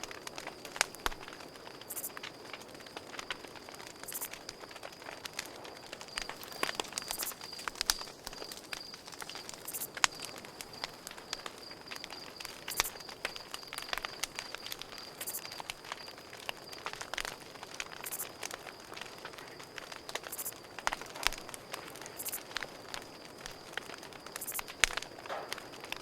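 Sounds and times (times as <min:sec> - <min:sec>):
campfire crackling and popping: 0:00.0 - 0:26.0
cricket trilling: 0:00.0 - 0:26.0.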